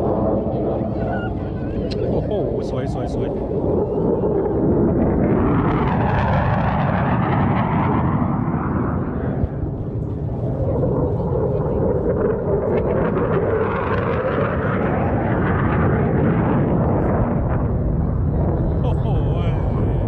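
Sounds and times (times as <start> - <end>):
jet aircraft flying past: 0.0 - 20.0.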